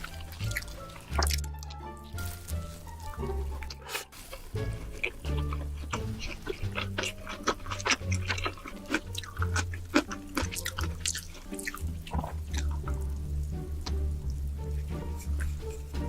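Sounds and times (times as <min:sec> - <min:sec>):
background music with bass line: 0:00.0 - 0:04.0, 0:04.6 - 0:16.0
wet chewing and mouth smacks: 0:00.0 - 0:15.9.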